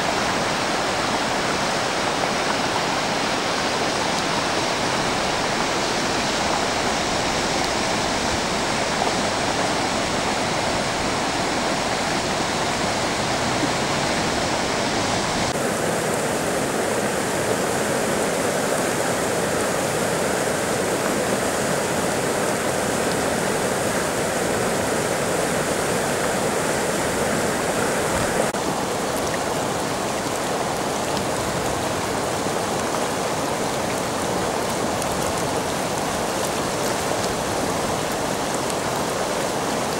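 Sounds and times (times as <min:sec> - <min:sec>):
heavy rain running water: 0:00.0 - 0:39.9.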